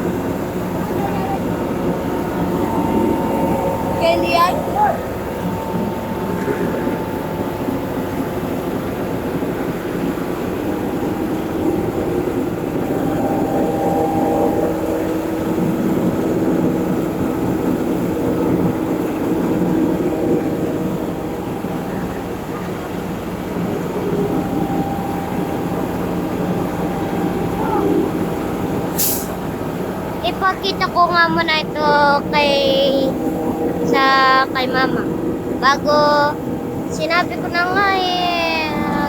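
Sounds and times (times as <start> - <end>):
diesel truck machinery hum and whine: 0.0 - 39.0.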